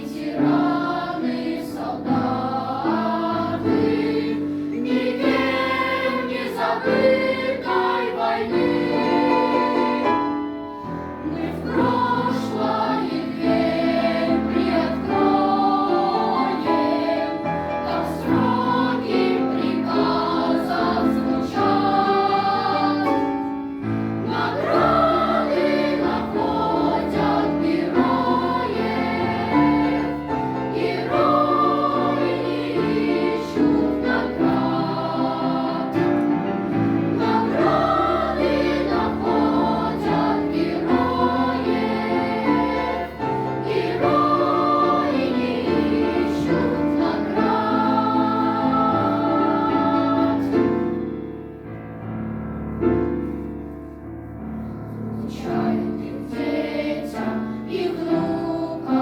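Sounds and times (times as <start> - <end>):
choir singing: 0.0 - 51.6, 54.6 - 59.0.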